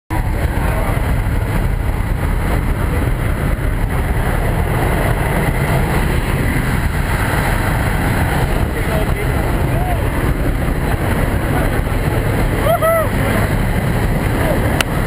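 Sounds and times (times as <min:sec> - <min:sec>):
plane engine and propeller drone: 0:00.1 - 0:15.0
rushing air: 0:00.1 - 0:15.0.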